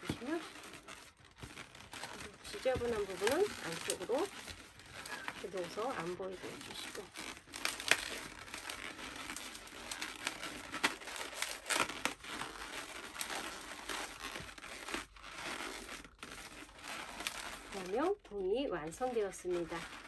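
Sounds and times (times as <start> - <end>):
balloons rubbing together: 0.0 - 20.0.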